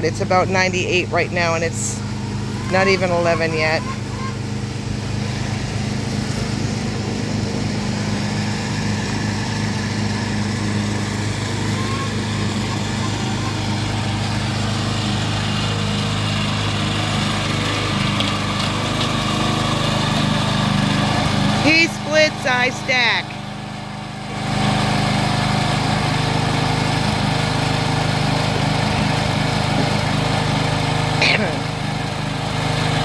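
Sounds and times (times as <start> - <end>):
small gas engine running: 0.0 - 33.0.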